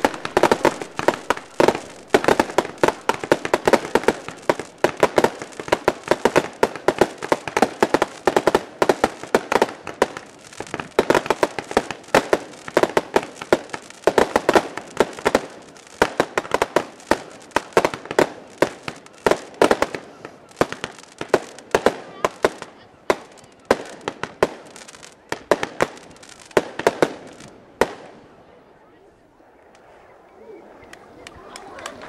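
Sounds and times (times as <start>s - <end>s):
fireworks bangs and cracks: 0.0s - 28.5s.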